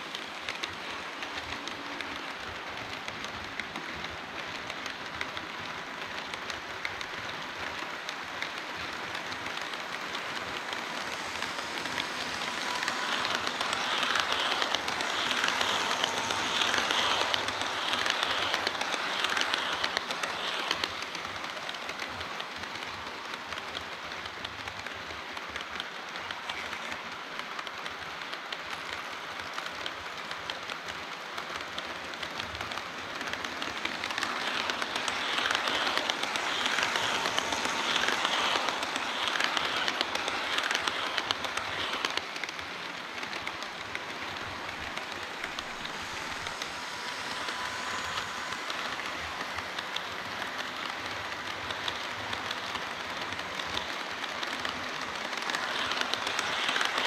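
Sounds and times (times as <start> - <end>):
model train wheels rattling: 0.0 - 57.0.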